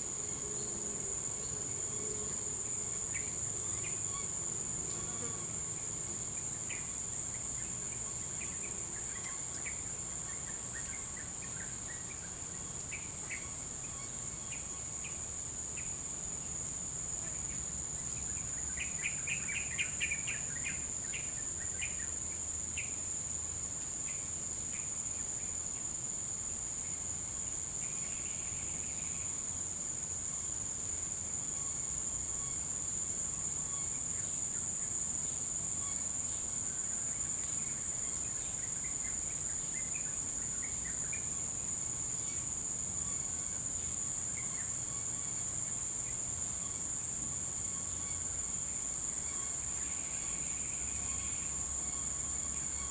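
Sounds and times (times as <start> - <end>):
insects droning: 0.0 - 52.9.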